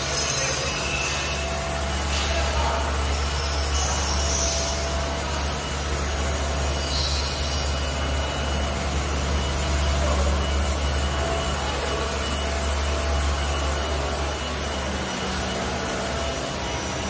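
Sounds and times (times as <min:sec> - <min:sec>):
vibrating motor hum and buzz: 0:00.0 - 0:17.0.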